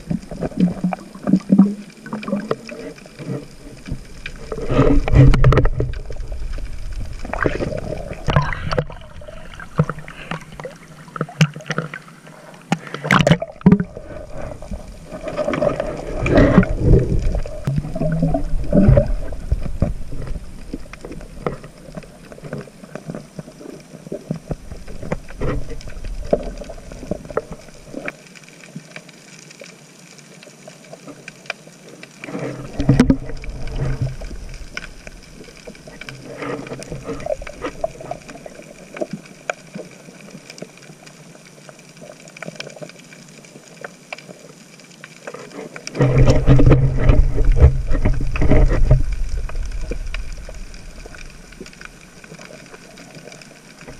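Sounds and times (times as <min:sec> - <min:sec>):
water bubbling: 0:00.0 - 0:28.2, 0:32.3 - 0:40.9, 0:45.9 - 0:53.9
clicks and crackles: 0:00.0 - 0:53.9
low rush of water and bubbles: 0:00.0 - 0:53.9
muffled underwater hiss: 0:00.0 - 0:53.9.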